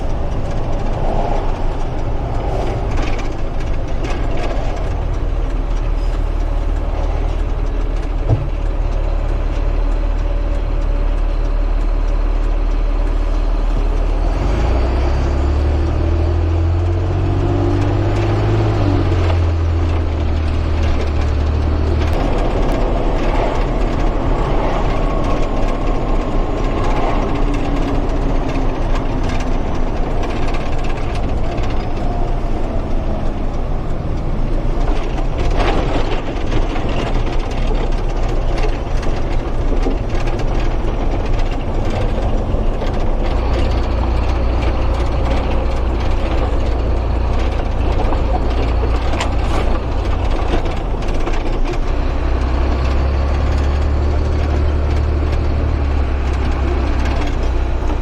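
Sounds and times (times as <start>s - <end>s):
rattling and knocking: 0.0s - 10.4s, 16.9s - 58.0s
truck engine running: 0.0s - 58.0s.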